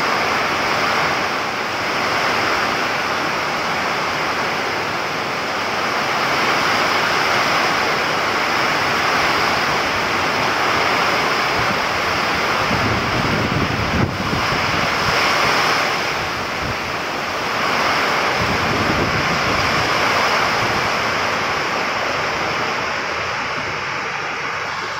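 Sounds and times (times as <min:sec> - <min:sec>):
heavy rain pouring: 0:00.0 - 0:24.9
wind gusting through trees: 0:00.0 - 0:24.9
wind buffeting microphone: 0:03.9 - 0:24.9.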